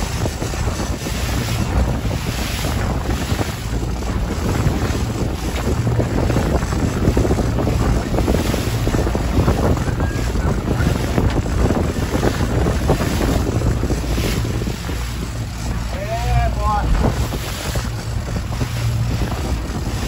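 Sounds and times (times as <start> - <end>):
boat wake rushing: 0.0 - 20.0
outboard motor running: 0.0 - 20.0
wind buffeting microphone: 0.0 - 20.0.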